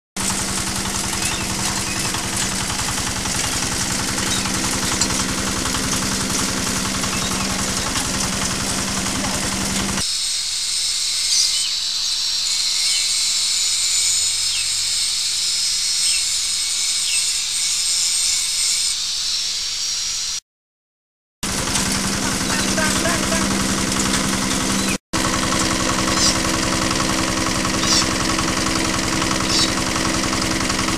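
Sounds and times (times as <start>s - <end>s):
small engine pulsing: 0.2s - 20.4s, 21.4s - 30.9s.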